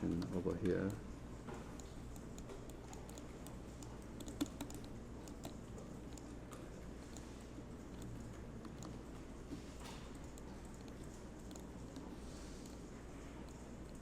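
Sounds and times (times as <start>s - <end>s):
faint low hum: 0.0s - 14.0s
keyboard keys tapping: 0.0s - 14.0s.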